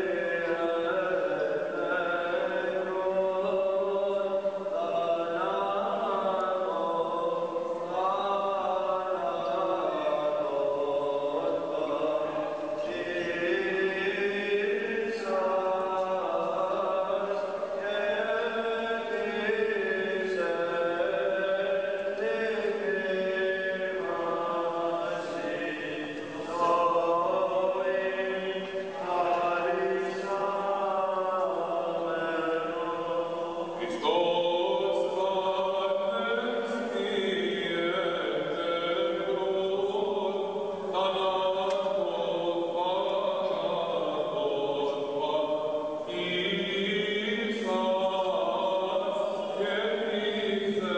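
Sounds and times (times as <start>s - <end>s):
voices singing slow chant: 0.0s - 50.9s.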